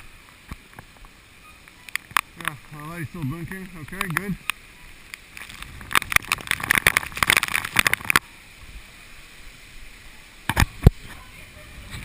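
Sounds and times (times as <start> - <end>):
raindrops hitting camera: 0.0 - 12.0.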